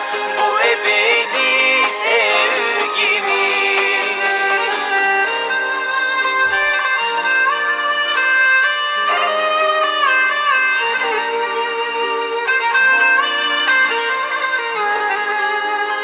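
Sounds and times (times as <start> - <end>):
violin melody with slides: 0.0 - 16.0.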